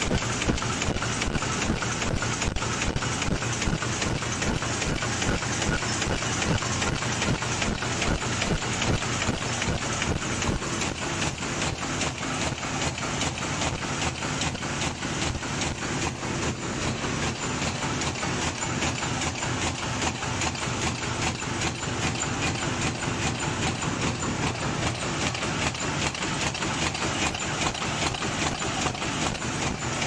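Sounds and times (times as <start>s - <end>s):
machine clattering with sharp clacks: 0.0s - 30.0s.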